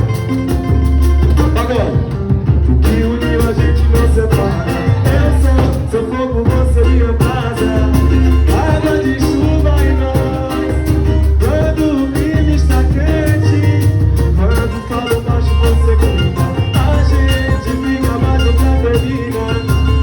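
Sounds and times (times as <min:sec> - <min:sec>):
upbeat latin-style song: 0:00.0 - 0:20.0.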